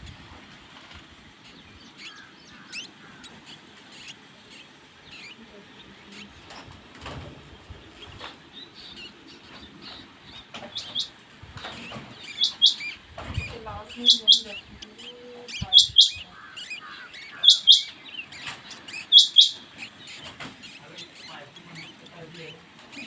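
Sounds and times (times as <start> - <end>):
mouse pups squeaking: 1.4 - 6.8, 7.9 - 23.0.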